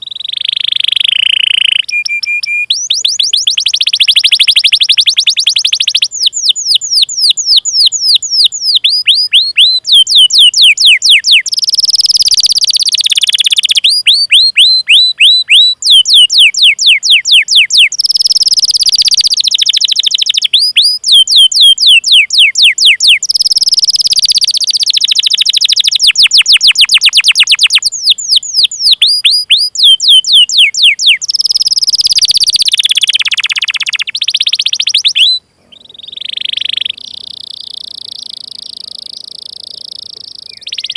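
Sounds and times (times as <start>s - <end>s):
canary singing chirps and trills: 0.0s - 40.9s.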